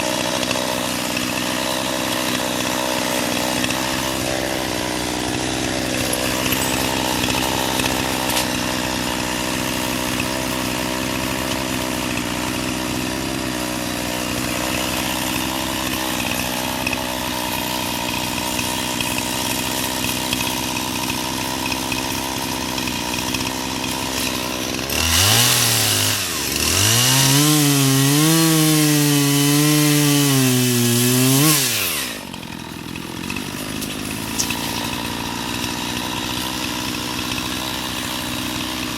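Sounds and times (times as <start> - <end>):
chainsaw running and revving: 0.0 - 38.9.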